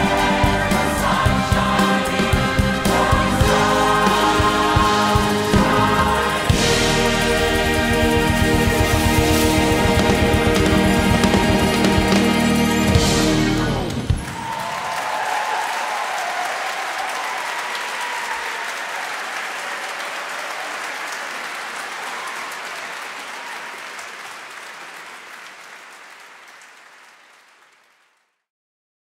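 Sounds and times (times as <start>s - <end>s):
large audience applauding: 0.0s - 28.4s.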